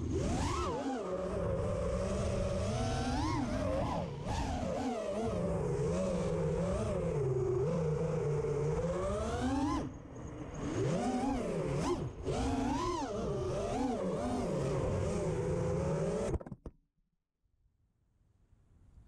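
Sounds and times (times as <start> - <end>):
drone motors whining: 0.0 - 16.5.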